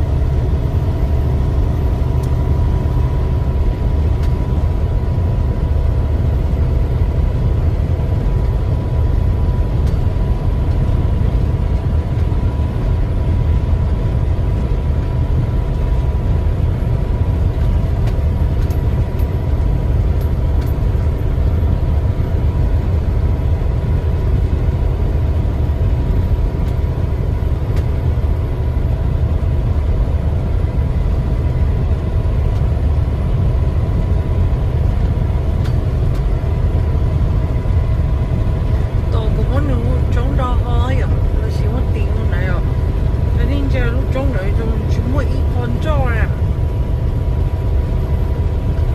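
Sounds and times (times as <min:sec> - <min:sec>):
truck engine and road rumble: 0:00.0 - 0:48.9.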